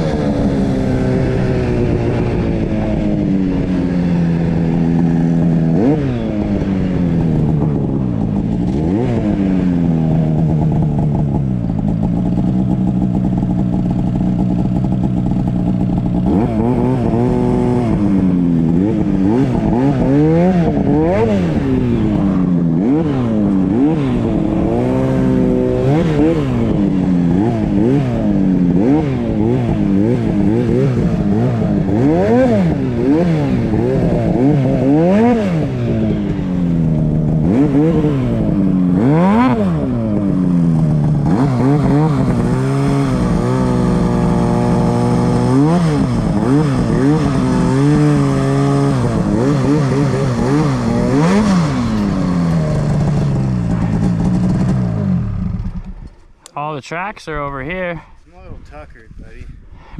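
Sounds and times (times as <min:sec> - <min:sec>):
snowmobile engine revving: 0:00.0 - 0:59.4.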